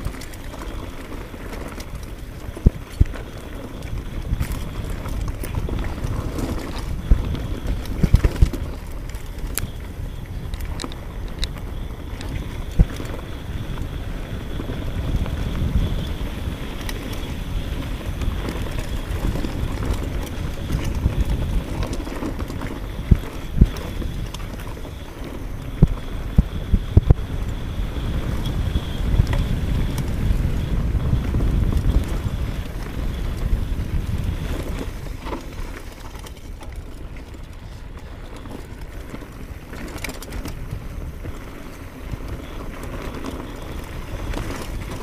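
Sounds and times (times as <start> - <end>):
bike knocking and rattling: 0.0 - 45.0
tyres rumbling on dirt trail: 0.0 - 45.0
wind on microphone: 0.0 - 45.0.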